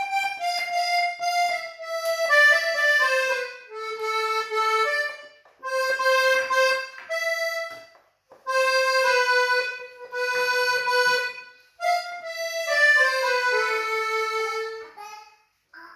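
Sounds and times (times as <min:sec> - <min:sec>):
accordion slow melody: 0:00.0 - 0:15.8.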